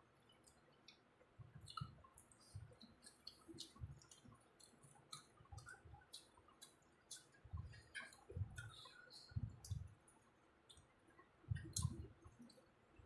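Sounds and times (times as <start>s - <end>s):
chewing clicks and smacks: 0.2s - 13.0s.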